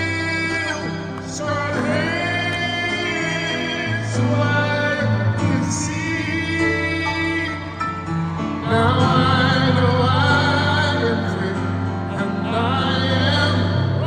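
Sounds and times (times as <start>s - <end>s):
instrumental backing: 0.0s - 14.0s
wordless gospel singing: 0.0s - 14.0s.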